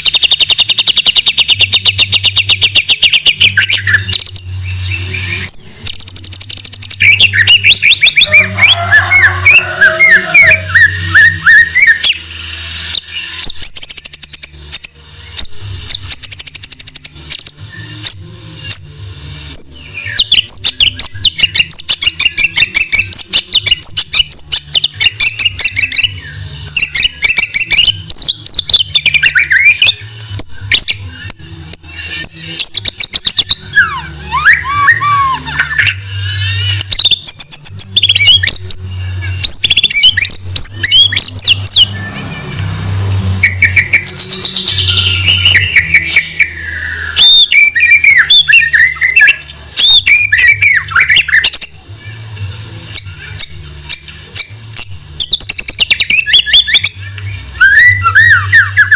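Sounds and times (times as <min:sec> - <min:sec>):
songbird singing varied song: 0:00.0 - 0:58.9.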